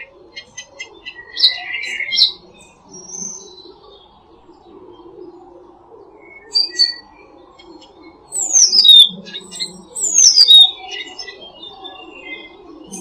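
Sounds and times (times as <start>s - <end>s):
low pulsing coo: 0.0s - 13.0s
songbirds singing: 0.0s - 13.0s.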